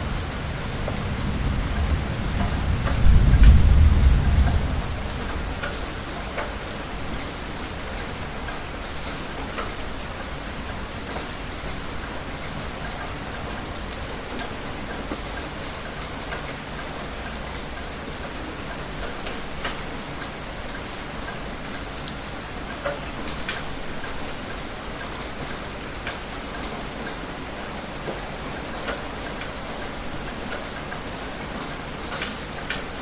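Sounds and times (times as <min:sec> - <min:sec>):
heavy rain: 0:00.0 - 0:33.0.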